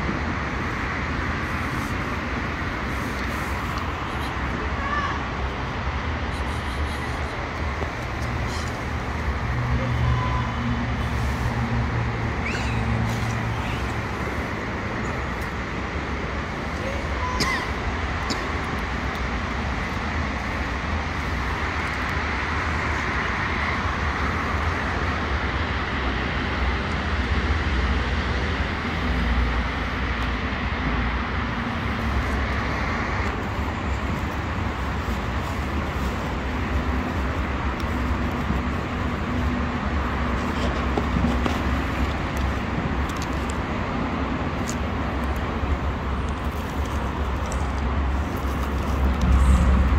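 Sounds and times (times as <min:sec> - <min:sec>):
road traffic rumble: 0:00.0 - 0:49.9.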